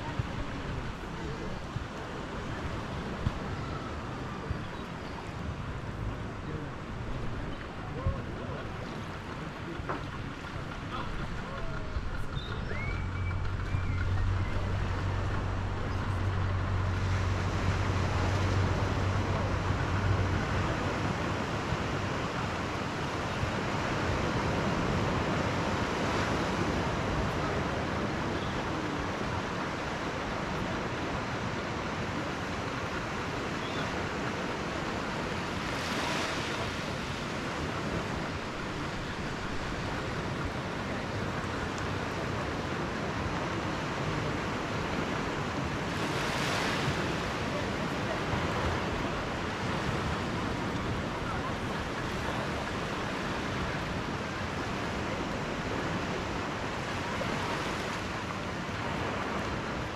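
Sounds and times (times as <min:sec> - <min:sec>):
low engine hum: 0:00.0 - 0:59.9
small waves washing onto shore: 0:00.0 - 0:59.9.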